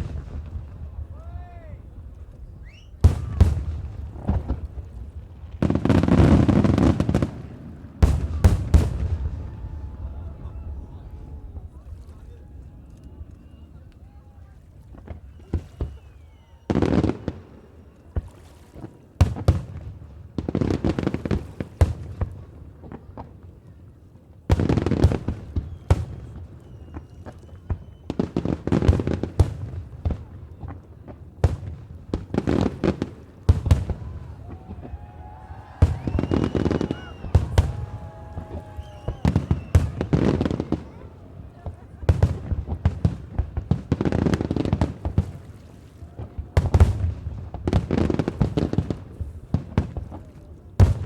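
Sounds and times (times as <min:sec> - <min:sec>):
fireworks bangs and crackling: 0:00.0 - 0:23.7, 0:24.4 - 0:51.0.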